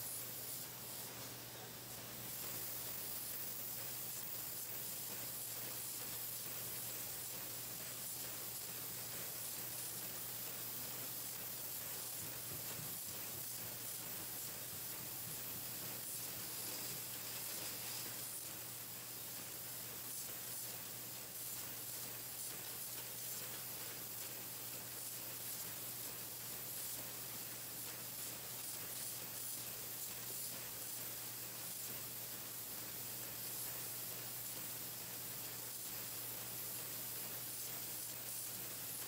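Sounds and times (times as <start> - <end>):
machine hissing and humming: 0.0 - 39.0.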